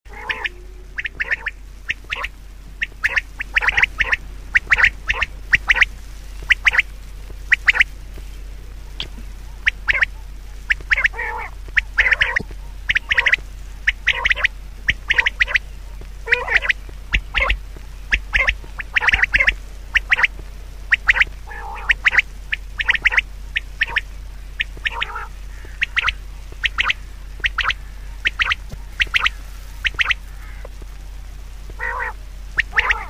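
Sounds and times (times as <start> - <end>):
harsh animal calls: 0.1 - 8.0, 8.9 - 31.0, 31.7 - 33.0
low steady hum: 0.1 - 33.0.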